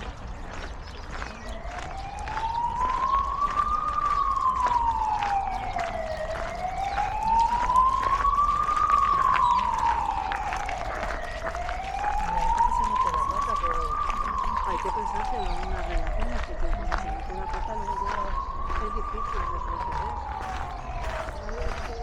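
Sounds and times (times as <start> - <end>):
emergency siren wailing: 0.0 - 22.0.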